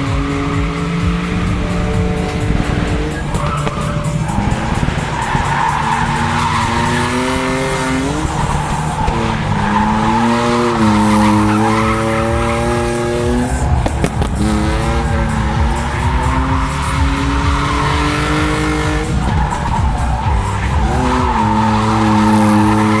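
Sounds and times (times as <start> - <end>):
car engine revving high: 0.0 - 23.0
tire squeal: 0.0 - 23.0.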